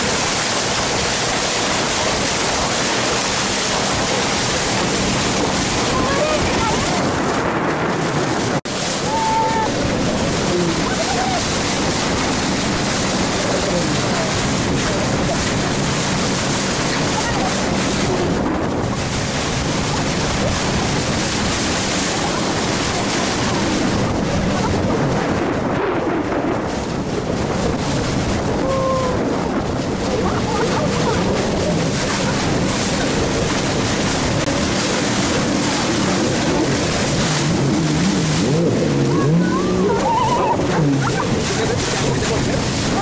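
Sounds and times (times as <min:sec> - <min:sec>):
motorboat engine: 0:00.0 - 0:43.0
water against hull: 0:00.0 - 0:43.0
wind: 0:00.0 - 0:43.0.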